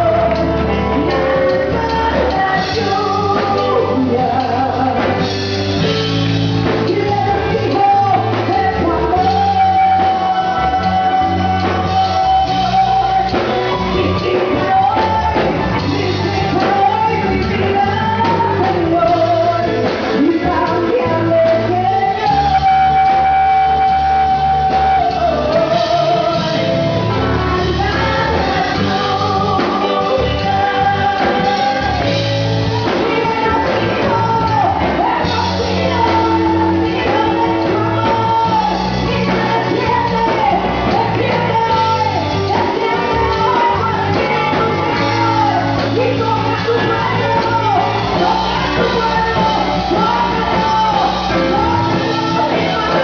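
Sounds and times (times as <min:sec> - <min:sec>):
full band playing: 0:00.0 - 0:53.0
lead singer singing: 0:00.0 - 0:53.0.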